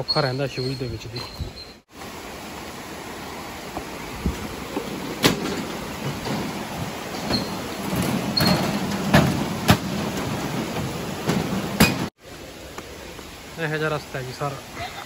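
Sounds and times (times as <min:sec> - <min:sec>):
stream rushing over rocks: 0:01.9 - 0:15.0.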